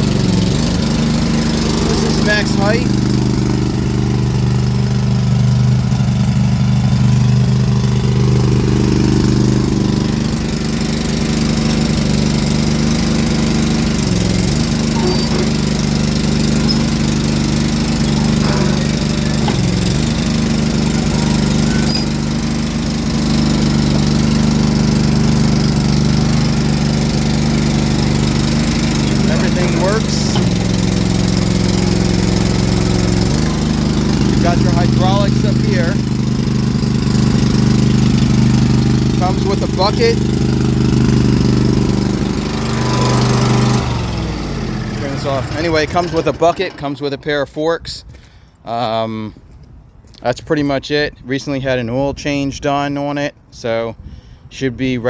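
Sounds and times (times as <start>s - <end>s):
skid steer engine running: 0.0s - 49.6s.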